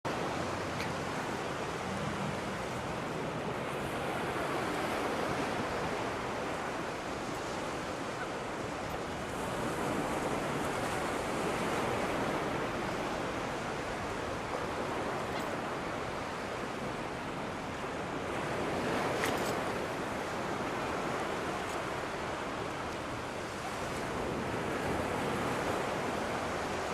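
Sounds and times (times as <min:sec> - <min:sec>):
ocean surf washing: 0:00.1 - 0:26.9.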